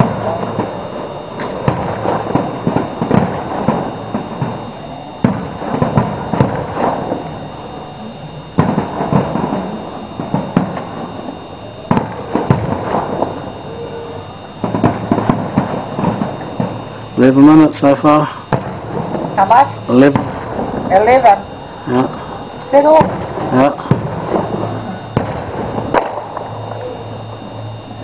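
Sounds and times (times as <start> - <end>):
crackling firework pops: 0.0 - 7.6, 8.3 - 13.7, 14.4 - 28.0
firework bangs: 0.0 - 28.0.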